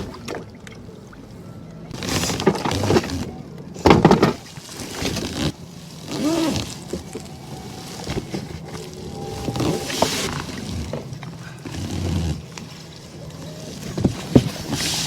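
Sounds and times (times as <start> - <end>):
gear rustling and bumping: 2.0 - 15.0.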